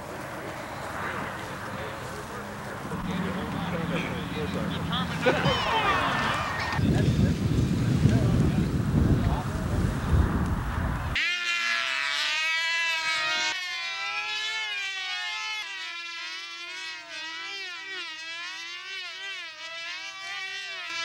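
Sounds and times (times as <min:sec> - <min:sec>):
model airplane engines buzzing: 0:00.0 - 0:21.0.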